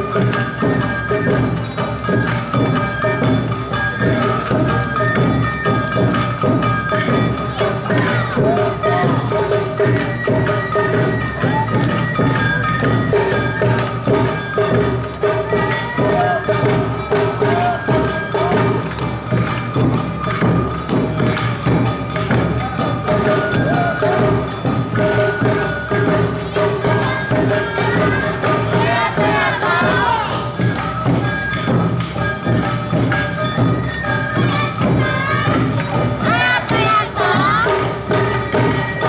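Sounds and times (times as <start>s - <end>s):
drums beating: 0.0s - 39.0s.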